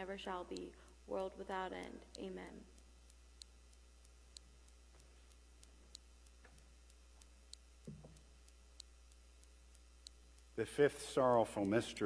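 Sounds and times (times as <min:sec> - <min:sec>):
faint ticks: 0:00.0 - 0:12.0
steady low hum: 0:00.0 - 0:12.0.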